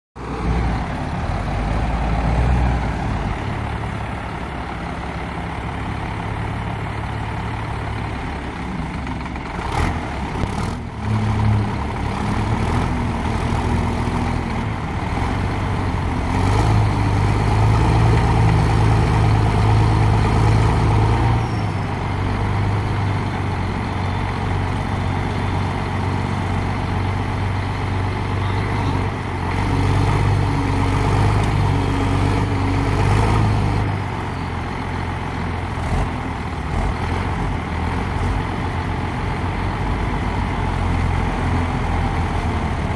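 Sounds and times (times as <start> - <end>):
diesel engines working under load: 0.2 - 42.9.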